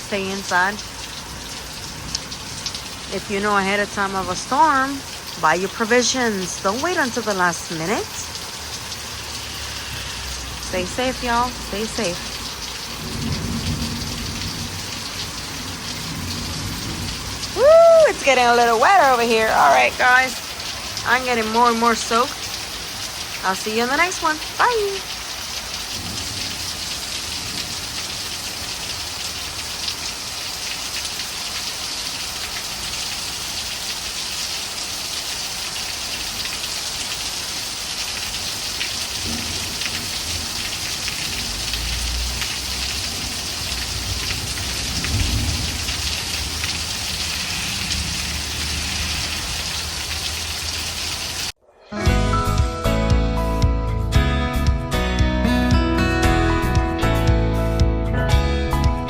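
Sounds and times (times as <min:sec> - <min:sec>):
heavy rain pattering: 0:00.0 - 0:51.6.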